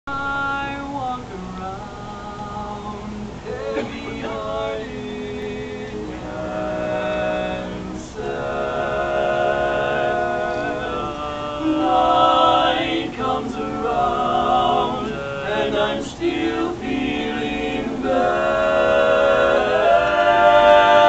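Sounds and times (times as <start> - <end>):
vocal group singing harmony: 0.1 - 21.0.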